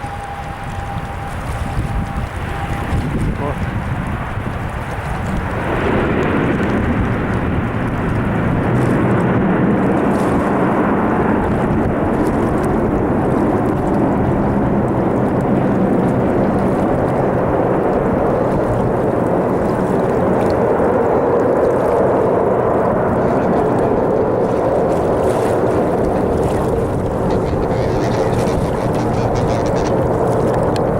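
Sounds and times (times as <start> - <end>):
turboprop engines running: 0.0 - 30.9.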